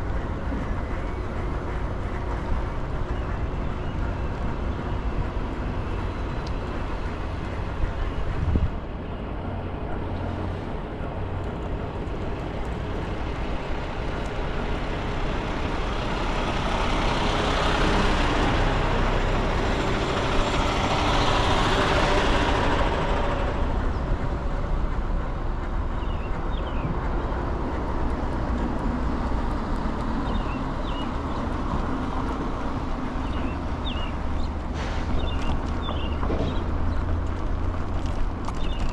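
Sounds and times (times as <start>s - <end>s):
street traffic: 0.0s - 38.9s.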